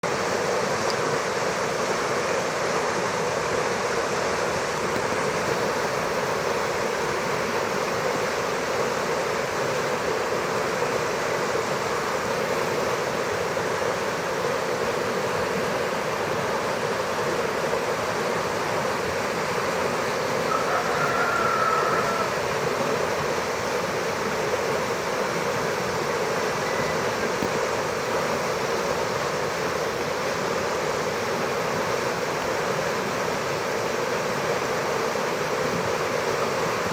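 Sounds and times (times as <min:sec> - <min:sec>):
fast-flowing stream rushing: 0:00.0 - 0:36.9.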